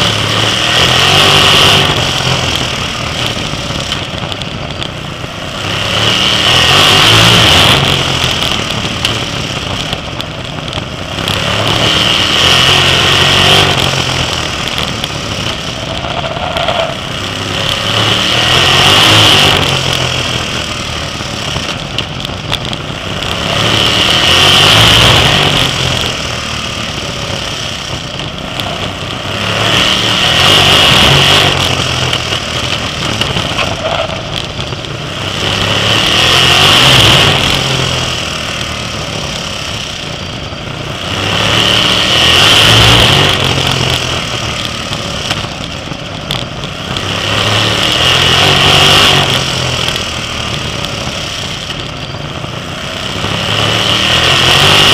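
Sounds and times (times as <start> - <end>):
racing car engines: 0.0 - 54.9.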